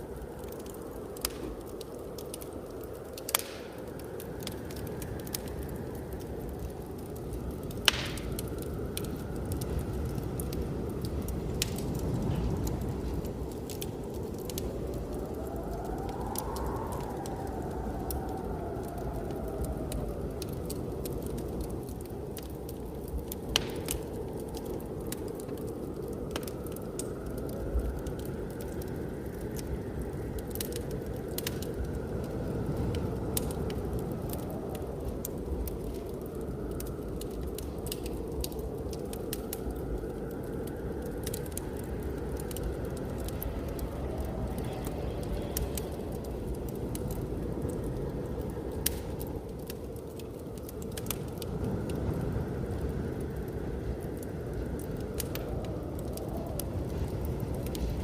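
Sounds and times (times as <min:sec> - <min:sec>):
blizzard wind whistling: 0:00.0 - 0:58.0
wood fire crackling: 0:00.0 - 0:58.0.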